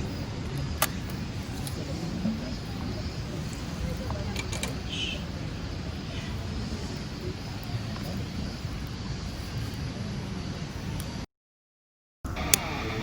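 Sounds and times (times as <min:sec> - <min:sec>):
motorcycle rumble: 0:00.0 - 0:11.2.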